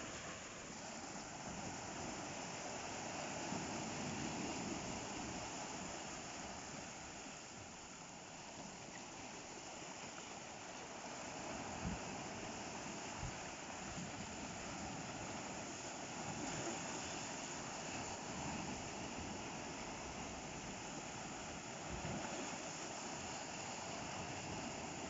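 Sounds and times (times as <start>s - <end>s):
waves breaking on shore: 0.0s - 25.0s.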